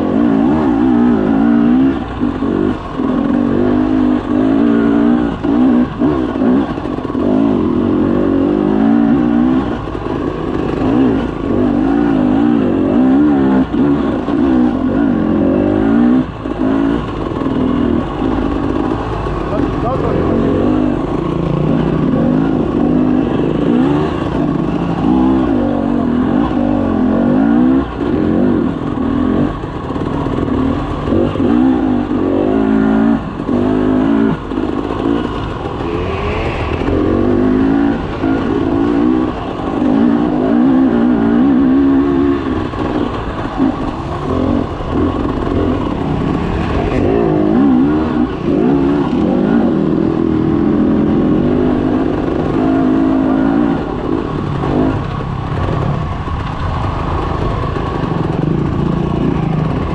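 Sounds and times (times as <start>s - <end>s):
dirt bike engine revving: 0.0s - 59.9s
steady rushing noise: 0.0s - 59.9s.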